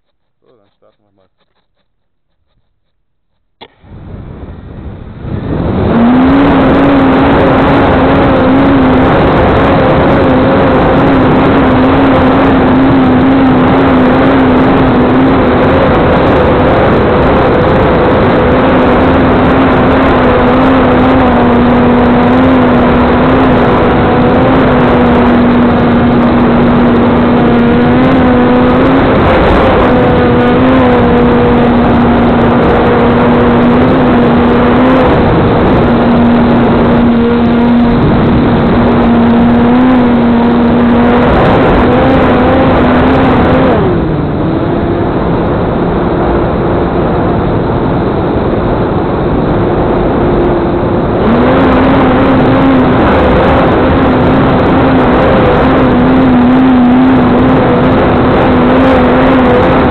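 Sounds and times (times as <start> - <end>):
small motor and propeller humming: 0.0 - 59.9
wind rushing over microphone: 3.6 - 59.9.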